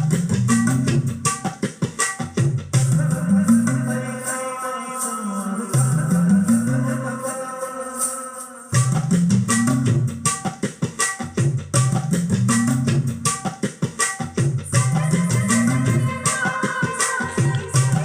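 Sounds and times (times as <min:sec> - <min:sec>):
film song through speakers: 0:00.0 - 0:18.0
percussion rhythm: 0:00.0 - 0:18.0.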